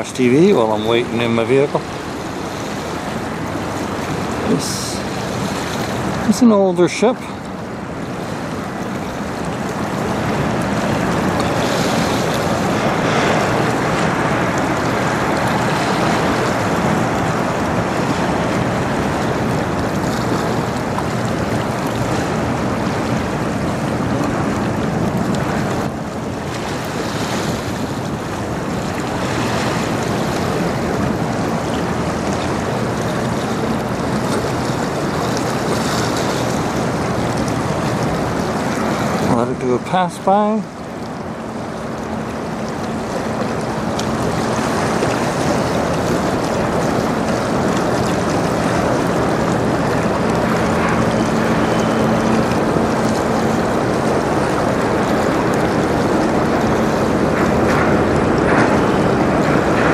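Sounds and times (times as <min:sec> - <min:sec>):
low ship hum: 0:00.0 - 0:59.9
river water: 0:00.0 - 0:59.9.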